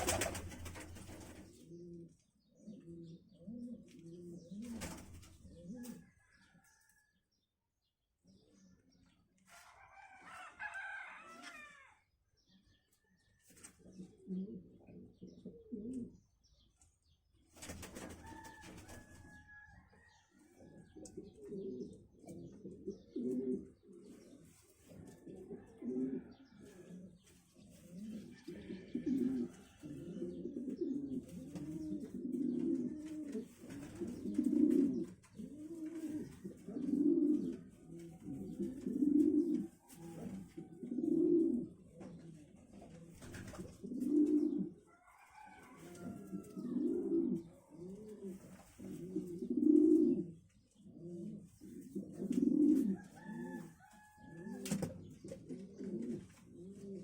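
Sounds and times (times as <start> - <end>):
pigeons cooing: 0.0 - 6.6, 13.6 - 16.2, 17.7 - 57.0.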